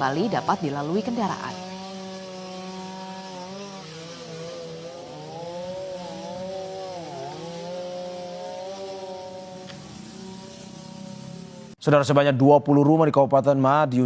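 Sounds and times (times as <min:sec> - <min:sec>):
chainsaw cutting tree trunk: 0:00.0 - 0:11.8.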